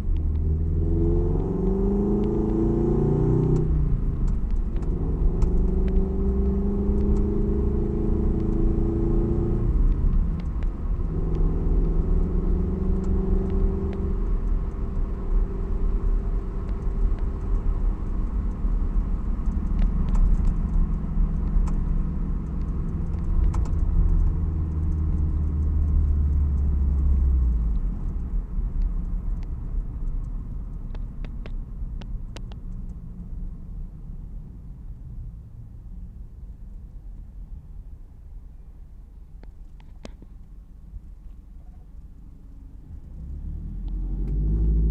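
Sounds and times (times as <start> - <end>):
car engine exhaust rumble: 0.0 - 44.9.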